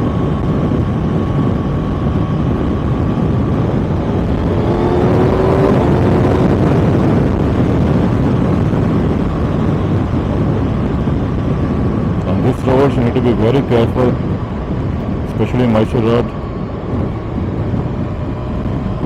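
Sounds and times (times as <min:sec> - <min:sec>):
motorcycle engine at road speed: 0:00.0 - 0:19.0
wind rush on microphone: 0:00.0 - 0:19.0.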